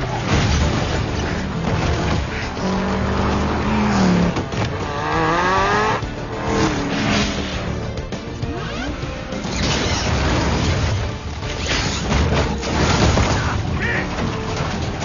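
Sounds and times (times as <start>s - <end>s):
dramatic score music: 0.0s - 15.0s.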